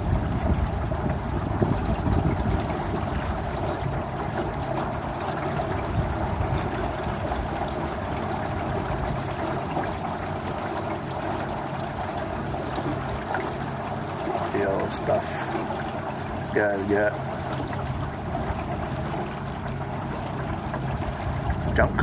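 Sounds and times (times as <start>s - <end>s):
water trickling along boat hull: 0.0s - 22.0s.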